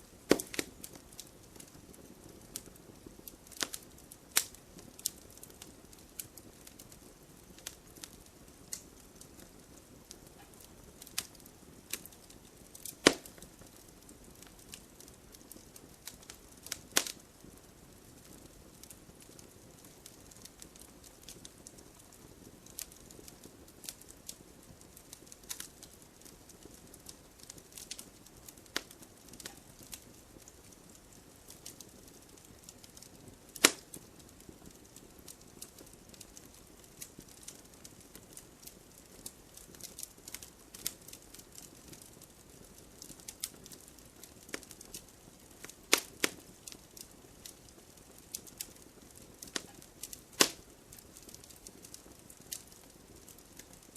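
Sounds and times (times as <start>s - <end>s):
bonfire crackling: 0.0s - 53.9s
faint steady hiss: 0.0s - 53.9s.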